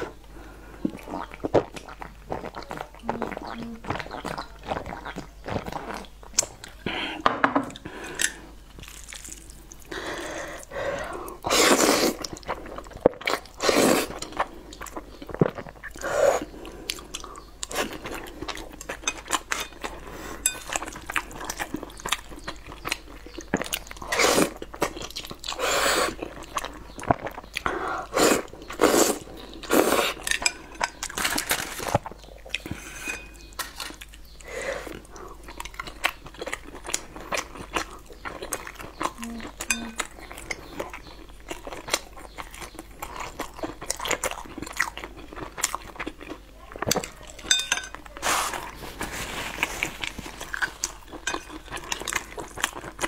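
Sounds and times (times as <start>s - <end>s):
person chewing and crunching food: 0.0s - 7.0s, 7.6s - 53.0s.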